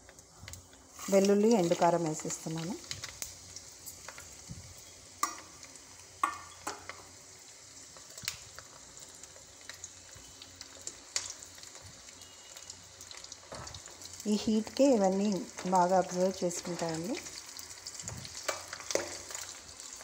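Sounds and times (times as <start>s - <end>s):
hot oil sizzling in a pan: 0.0s - 20.0s.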